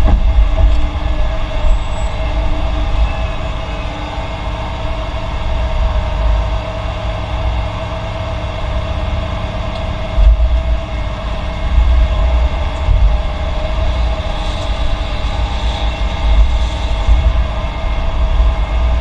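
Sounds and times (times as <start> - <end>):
diesel machinery rumble: 0.0 - 19.0
steady machine whine: 0.0 - 19.0.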